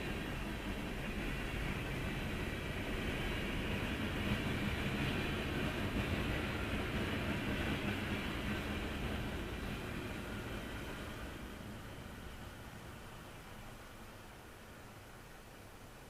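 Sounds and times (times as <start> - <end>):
train wheels rolling on rail: 0.0 - 15.6.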